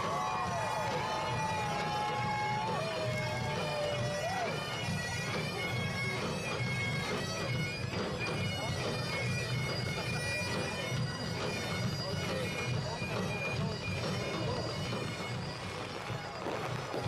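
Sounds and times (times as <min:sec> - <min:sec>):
bagpipes playing: 0:00.0 - 0:17.0.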